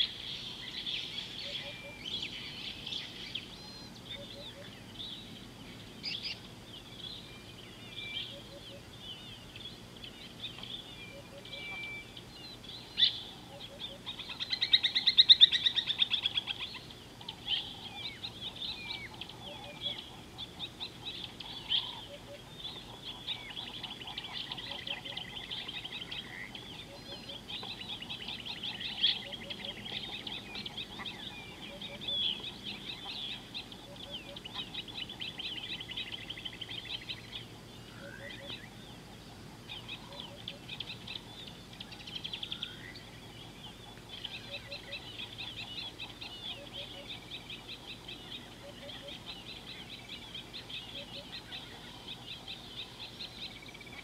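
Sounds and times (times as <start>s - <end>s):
birds calling and chirping: 0.0s - 54.0s.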